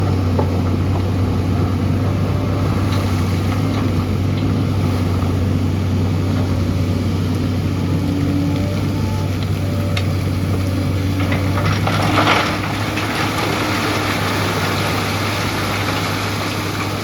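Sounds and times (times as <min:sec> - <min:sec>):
excavator engine humming: 0:00.0 - 0:17.0.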